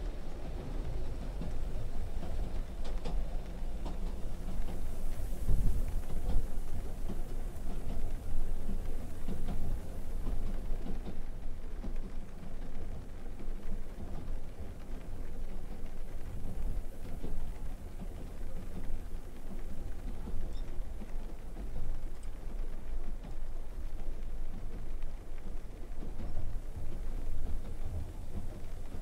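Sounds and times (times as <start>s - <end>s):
faint ticks: 2.2s - 29.0s.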